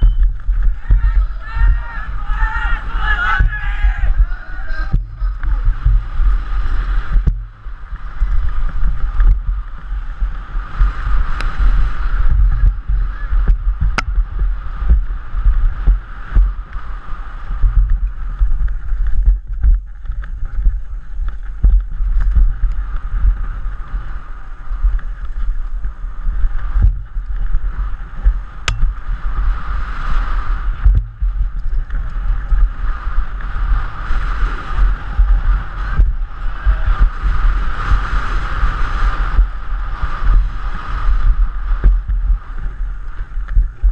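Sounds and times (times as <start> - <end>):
bike rattling and clicking: 0.0 - 43.9
low rumble: 0.0 - 43.9
wind buffeting microphone: 0.0 - 43.9.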